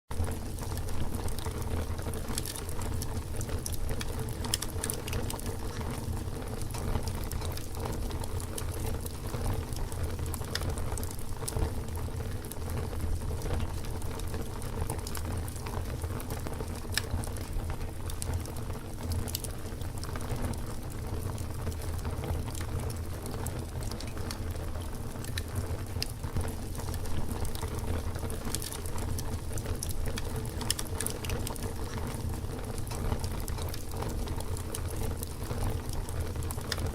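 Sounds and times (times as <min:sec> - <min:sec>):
burning wood crackling and popping: 0:00.2 - 0:36.9
campfire flames rushing: 0:00.2 - 0:36.9.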